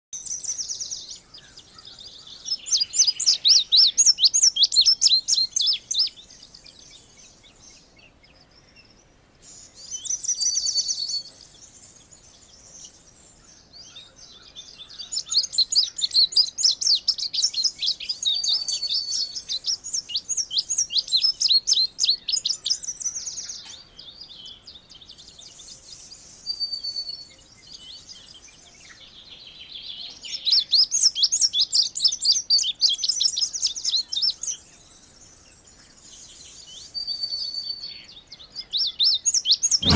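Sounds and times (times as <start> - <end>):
bird singing rapid chirps: 0.2 - 39.9.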